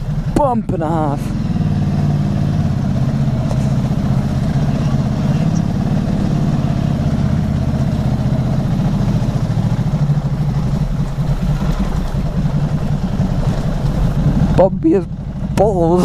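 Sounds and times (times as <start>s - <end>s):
motorcycle engine drone: 0.0s - 16.0s
road and wind noise: 0.0s - 16.0s.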